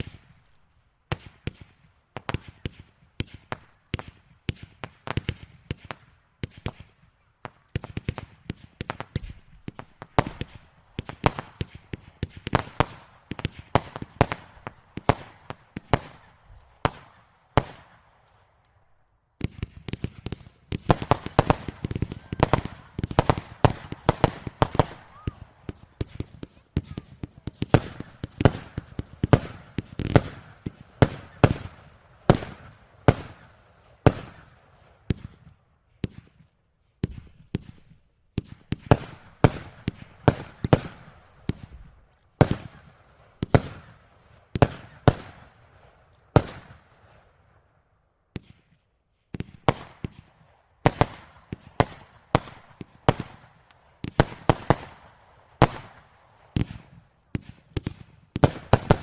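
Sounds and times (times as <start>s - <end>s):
fireworks bangs echoing: 1.1s - 18.0s, 19.4s - 36.4s, 37.0s - 46.9s, 49.3s - 59.0s.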